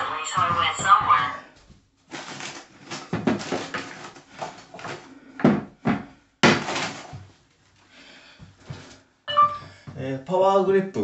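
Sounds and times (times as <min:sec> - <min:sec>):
rustling and handling noise: 0:00.0 - 0:10.0.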